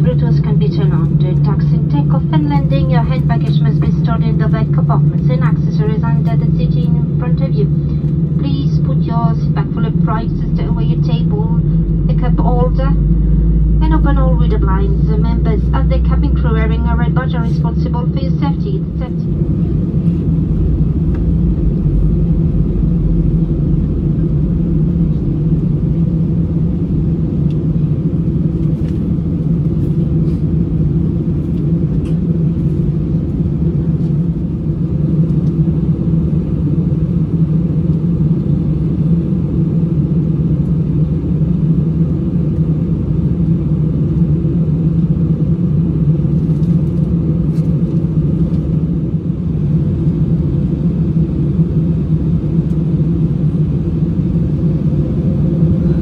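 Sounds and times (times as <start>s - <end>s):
jet cabin engine rumble: 0.0s - 56.0s.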